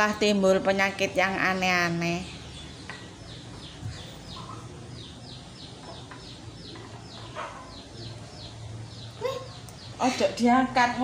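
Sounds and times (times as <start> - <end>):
bird chirping: 0.8 - 11.0.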